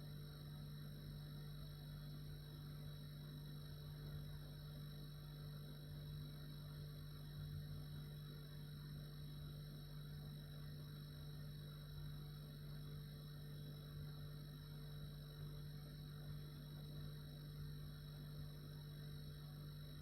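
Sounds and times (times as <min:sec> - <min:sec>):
refrigerator hum: 0:00.0 - 0:20.0.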